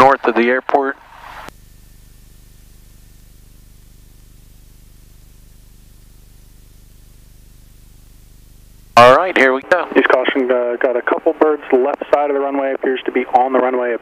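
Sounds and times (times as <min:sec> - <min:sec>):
faint airplane engine hum: 0:00.0 - 0:14.0.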